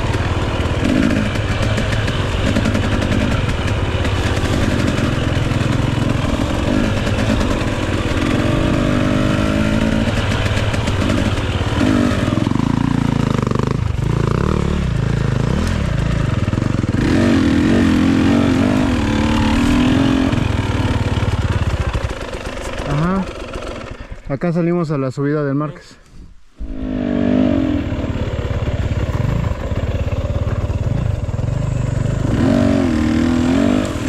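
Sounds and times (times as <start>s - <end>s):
dirt bike engine revving: 0.0s - 24.1s, 26.6s - 34.0s.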